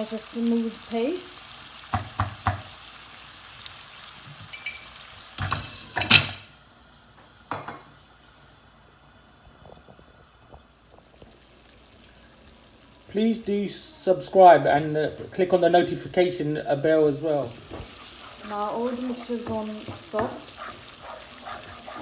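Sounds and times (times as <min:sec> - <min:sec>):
masala sizzling in a pan: 0:00.0 - 0:22.0.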